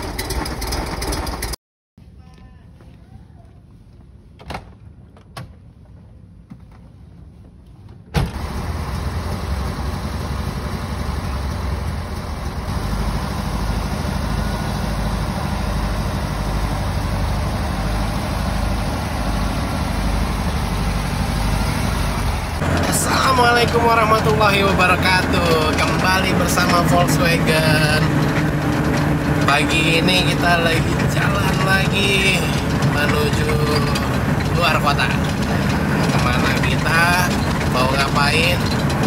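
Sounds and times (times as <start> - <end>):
van engine idling: 0.0 - 1.6, 8.2 - 39.0.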